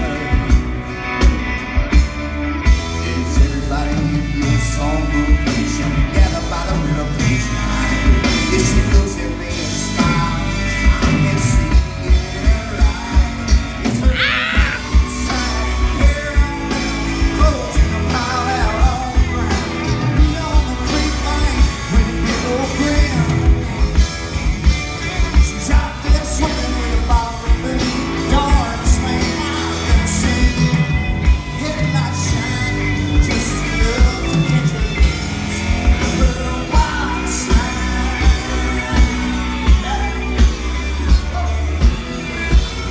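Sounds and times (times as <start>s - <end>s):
man singing: 0.0s - 0.9s, 2.6s - 42.9s
live rock band playing: 0.0s - 42.9s.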